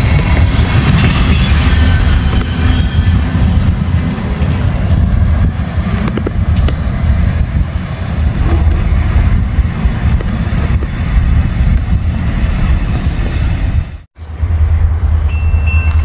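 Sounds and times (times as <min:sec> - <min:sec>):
freight train passing: 0:00.0 - 0:16.0
wind buffeting microphone: 0:00.0 - 0:16.0.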